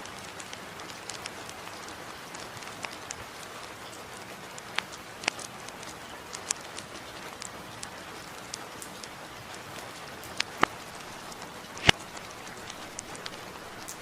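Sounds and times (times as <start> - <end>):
light rain hissing: 0.0 - 14.0
wood fire crackling and popping: 0.0 - 14.0.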